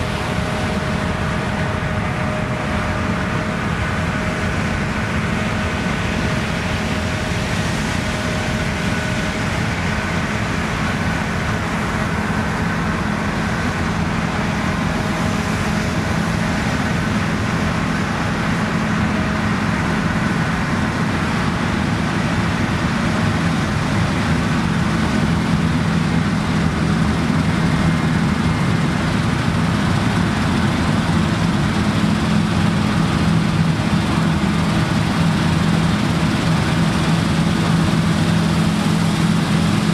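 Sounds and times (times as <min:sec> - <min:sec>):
combine harvester diesel drone: 0:00.0 - 0:39.9
machinery whine: 0:00.0 - 0:39.9.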